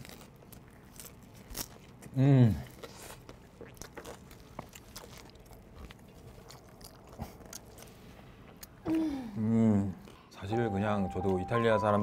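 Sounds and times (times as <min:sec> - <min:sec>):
people chewing crunchy bread: 0:00.0 - 0:10.2.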